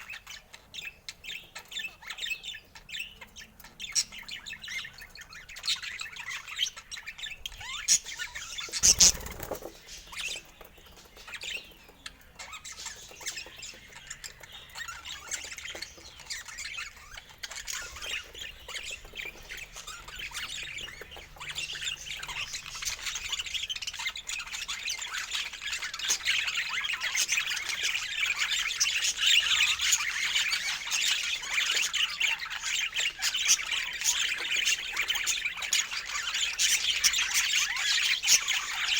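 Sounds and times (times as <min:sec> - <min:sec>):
birds chattering and squawking: 0:00.0 - 0:38.9.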